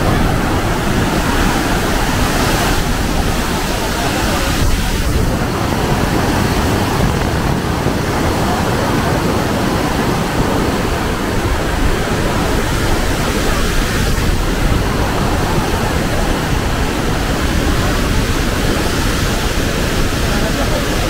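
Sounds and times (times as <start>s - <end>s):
white-water river rushing: 0.0s - 21.0s.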